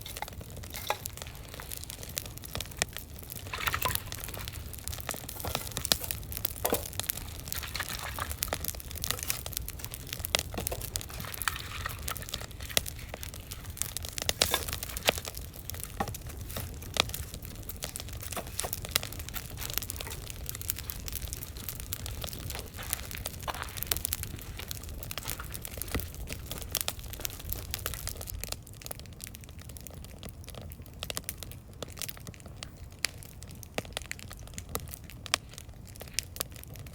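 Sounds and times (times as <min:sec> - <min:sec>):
campfire crackling and popping: 0:00.0 - 0:36.9
fire low rumble: 0:00.0 - 0:36.9.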